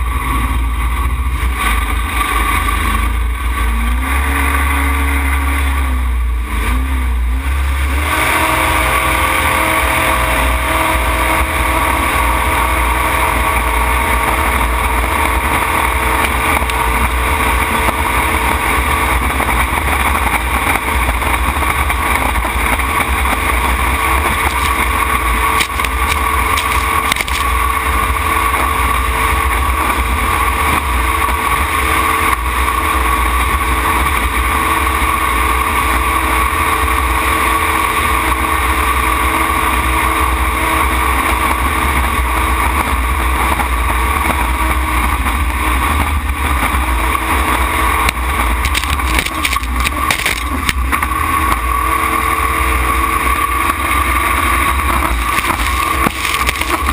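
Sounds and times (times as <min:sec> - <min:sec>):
jet boat engine revving: 0:00.0 - 0:56.9.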